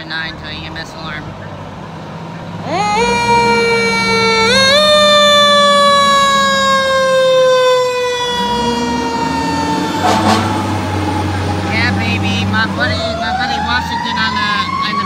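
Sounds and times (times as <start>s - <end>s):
truck engine revving: 0.0s - 15.0s
fire engine siren: 2.5s - 15.0s.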